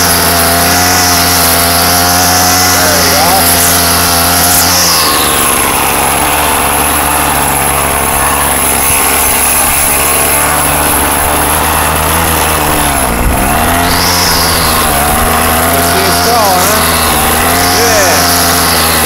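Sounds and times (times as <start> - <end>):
string trimmer engine running: 0.0 - 19.0.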